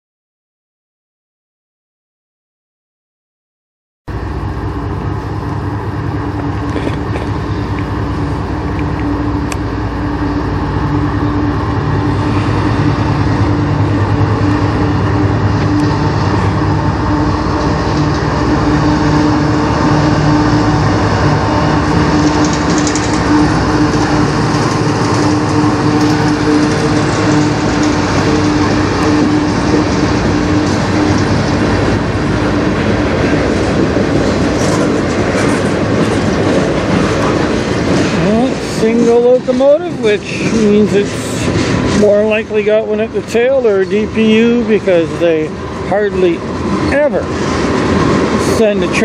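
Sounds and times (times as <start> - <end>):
diesel locomotive engine droning: 4.1 - 49.0.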